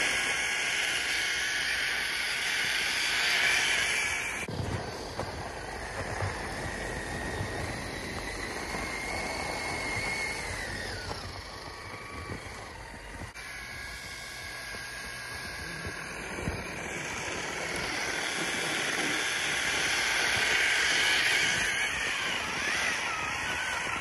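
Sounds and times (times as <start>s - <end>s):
electric motor high whine: 0.0s - 24.0s
tyres churning snow: 0.0s - 24.0s.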